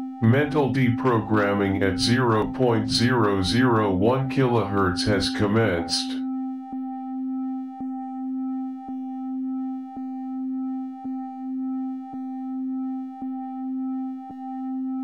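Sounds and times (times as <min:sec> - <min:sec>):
pulsed synthesized electronic tone: 0:00.0 - 0:15.0.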